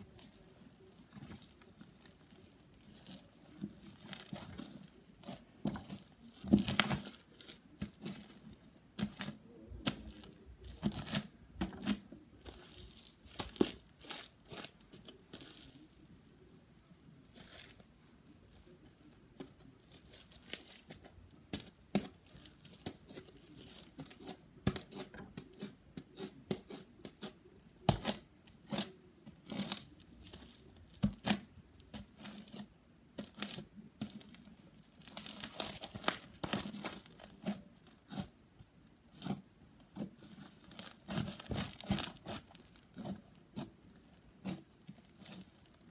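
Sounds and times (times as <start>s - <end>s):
slime crackling and popping: 0.0s - 16.5s, 19.4s - 38.3s, 38.9s - 45.9s.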